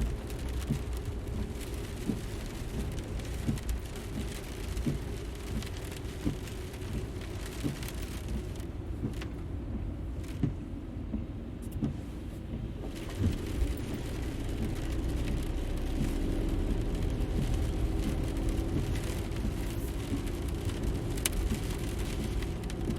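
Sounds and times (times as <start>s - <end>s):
car driving rumble: 0.0s - 22.9s.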